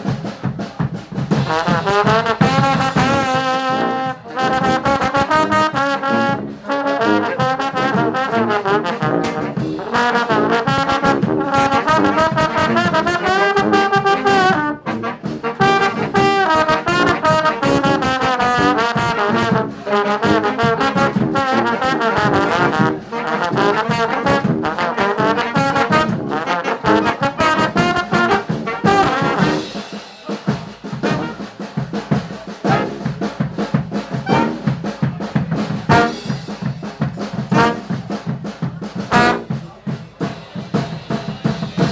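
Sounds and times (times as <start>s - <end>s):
brass band playing: 0.0s - 41.9s
drum beat: 0.0s - 41.9s.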